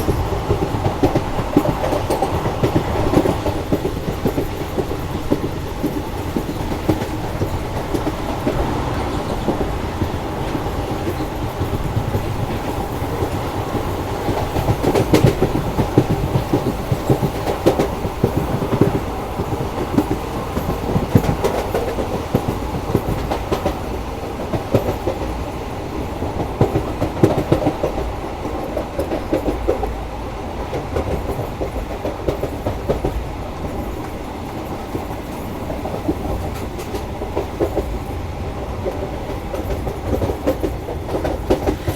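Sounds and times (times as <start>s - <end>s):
train rumble: 0.0s - 41.9s
train wheels clattering: 0.0s - 41.9s.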